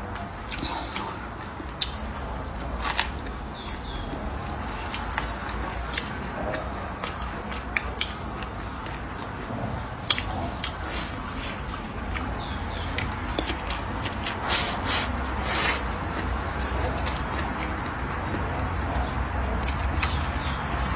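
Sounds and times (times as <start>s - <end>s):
person chewing: 0.0s - 20.9s.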